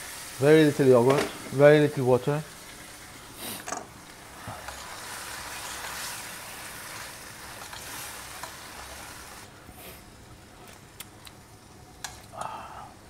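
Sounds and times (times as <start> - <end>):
greens sizzling in a skillet: 0.0 - 12.5.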